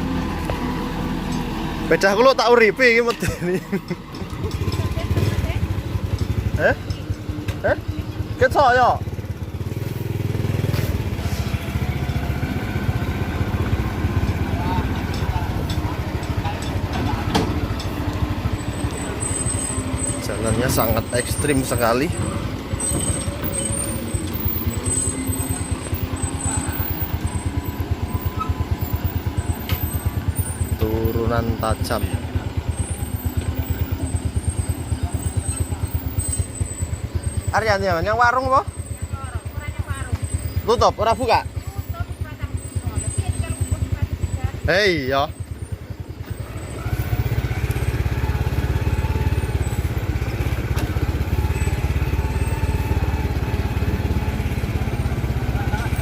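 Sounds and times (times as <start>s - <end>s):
diesel truck engine throbbing: 0.0s - 56.0s.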